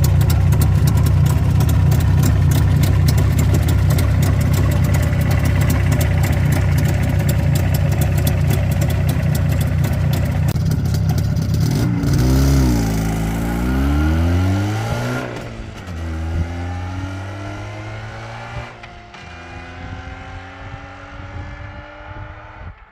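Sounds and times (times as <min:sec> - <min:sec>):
two-stroke motorcycle engine revving: 0:00.0 - 0:22.8.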